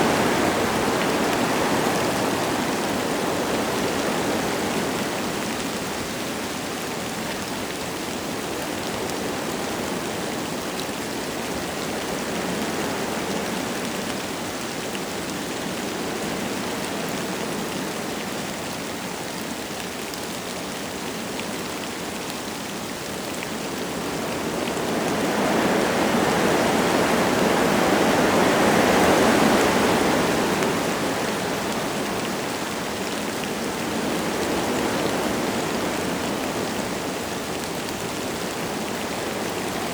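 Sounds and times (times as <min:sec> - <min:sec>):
light rain falling: 0:00.0 - 0:39.9
wind through forest trees: 0:00.0 - 0:39.9.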